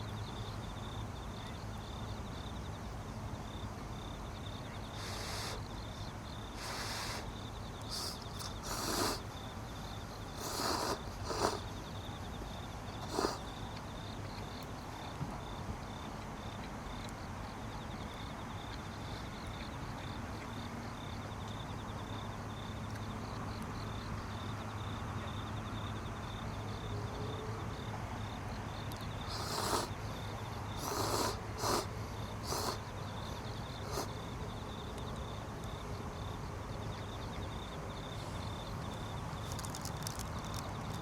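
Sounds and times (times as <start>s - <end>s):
insect chirping: 0.0s - 41.0s.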